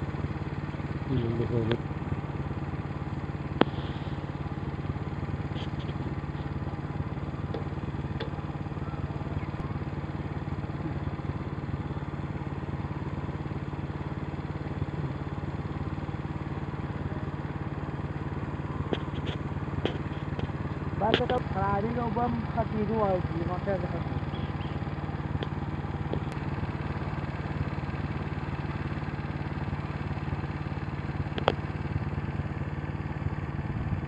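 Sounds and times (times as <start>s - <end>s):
small engine idling: 0.0s - 34.0s.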